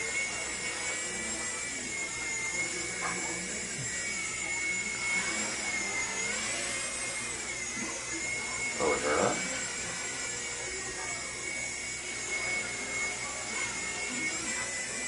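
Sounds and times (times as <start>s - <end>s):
rc helicopter rotors whining: 0.0s - 15.0s.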